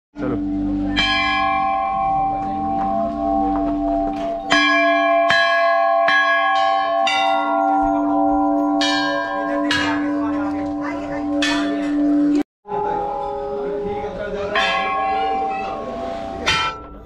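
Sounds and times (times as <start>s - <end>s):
temple bells ringing: 0.2s - 17.0s.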